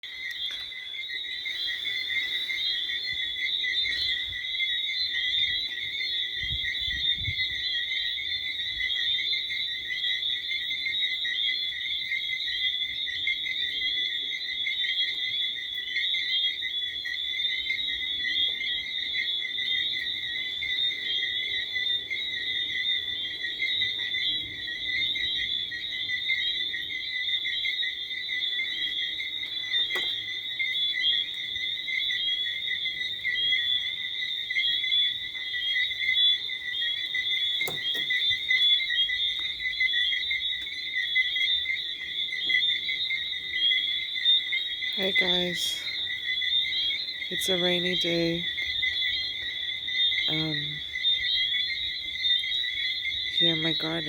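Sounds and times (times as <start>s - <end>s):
tree frogs trilling chorus: 0.0s - 54.0s.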